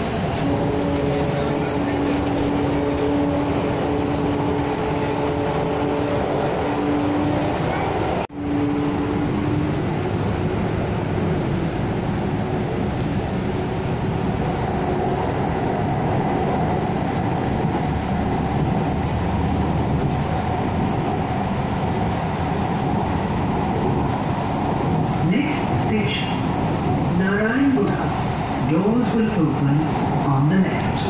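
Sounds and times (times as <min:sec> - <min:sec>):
train running noise from inside: 0:00.0 - 0:31.0.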